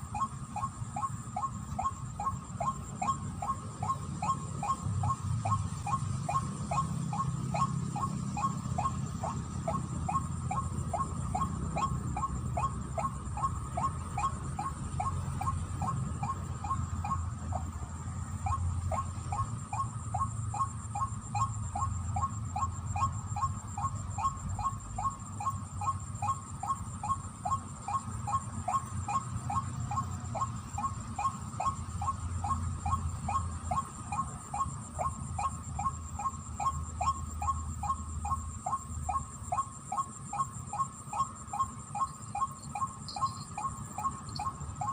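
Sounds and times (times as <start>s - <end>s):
waterhen calling: 0.0s - 44.9s.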